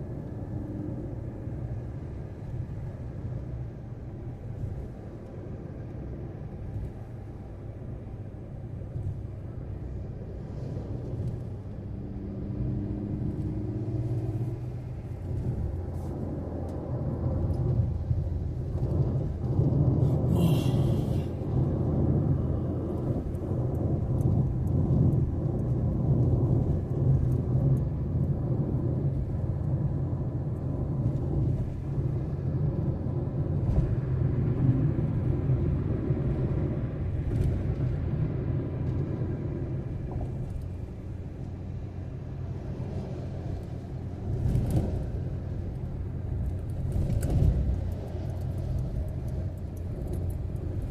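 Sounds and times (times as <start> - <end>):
vehicle rumbling on road: 0.0 - 50.9.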